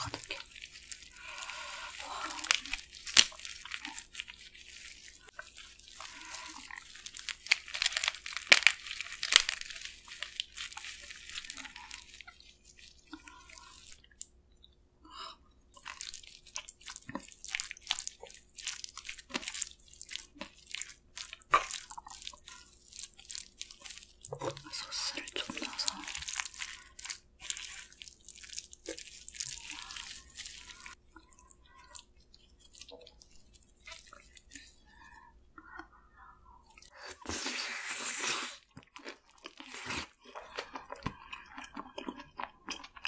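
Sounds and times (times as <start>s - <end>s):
crunching and sticky chewing: 0.0s - 14.8s, 15.4s - 43.0s.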